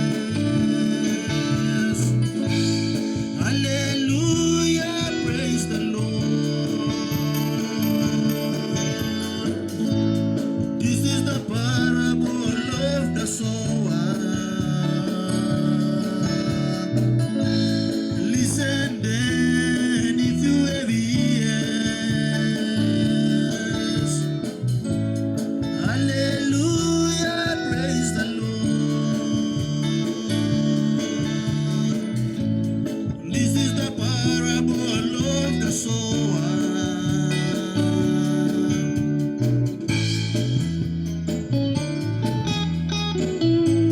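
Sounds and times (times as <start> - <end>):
wavering melody line: 0.0 - 40.2
guitar: 0.0 - 43.9
keyboard chords: 0.0 - 43.9
live band playing gospel music: 0.0 - 43.9.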